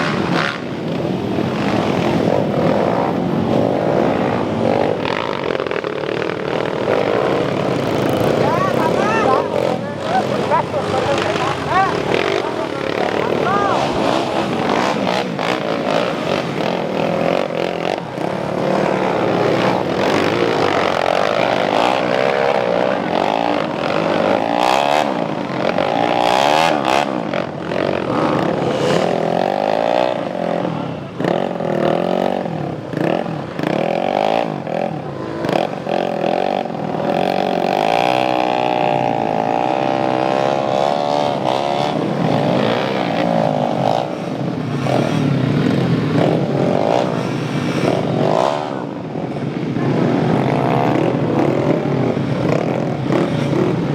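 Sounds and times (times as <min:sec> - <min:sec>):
motocross bikes revving: 0:00.0 - 0:53.9.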